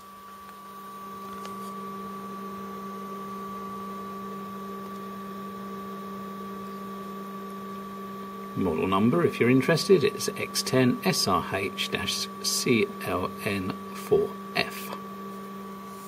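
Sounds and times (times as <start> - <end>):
server cooling fans humming: 0.0 - 16.0.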